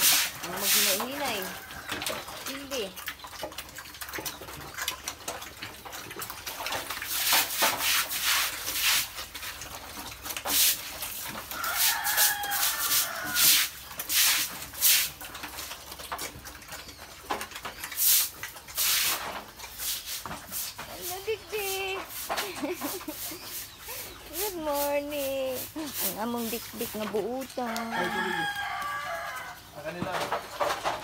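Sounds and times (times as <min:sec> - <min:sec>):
piglets slurping wet feed: 0:00.0 - 0:31.0.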